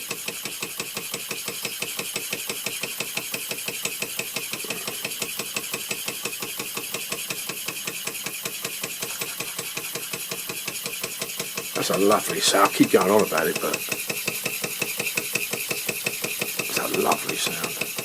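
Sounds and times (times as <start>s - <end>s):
toy steam engine pulsing: 0.0s - 18.0s.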